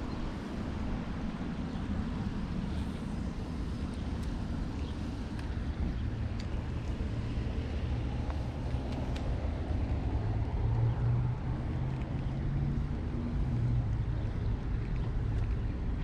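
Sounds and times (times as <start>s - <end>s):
engine hum: 0.0s - 16.0s
road traffic rumble: 0.0s - 16.0s.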